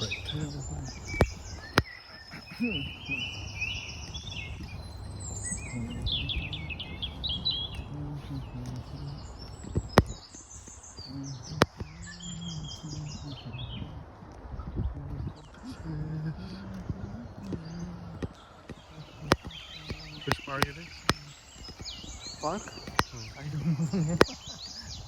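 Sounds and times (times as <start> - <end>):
sharp clicks: 0.0 - 13.4, 16.7 - 25.0
songbirds singing and chirping: 0.0 - 25.0.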